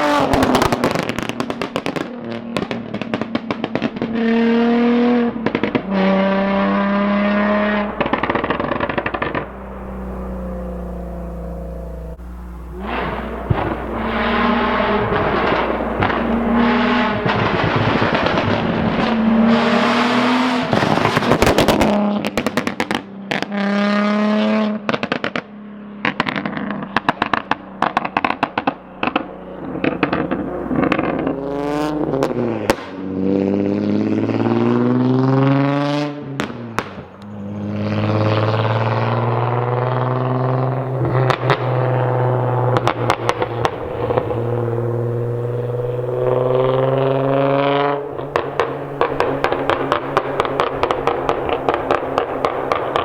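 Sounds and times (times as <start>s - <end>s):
car engine revving with exhaust pops: 0.0s - 53.0s.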